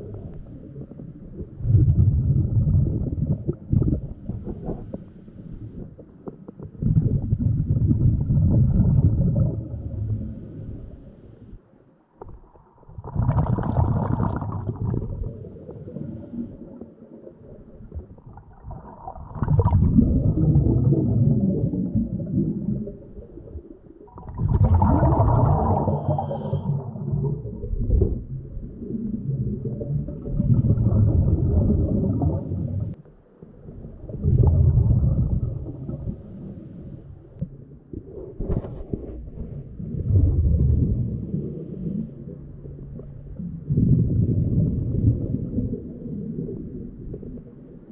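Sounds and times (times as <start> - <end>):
underwater rumbling and gurgling: 0.0 - 47.9.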